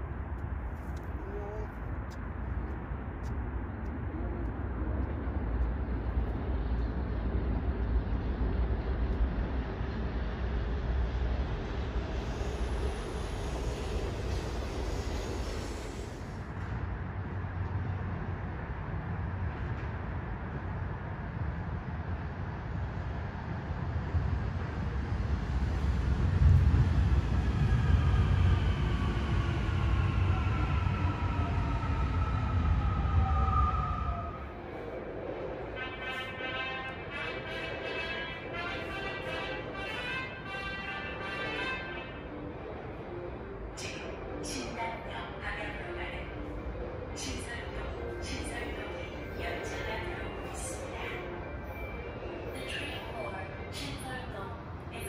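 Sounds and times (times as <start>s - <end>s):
electric train wheels rumbling on rail: 0.0s - 55.0s.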